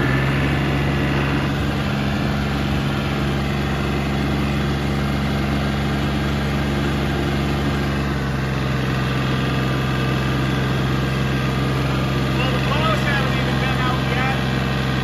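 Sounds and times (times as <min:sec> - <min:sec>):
tractor engine running steadily: 0:00.0 - 0:15.0.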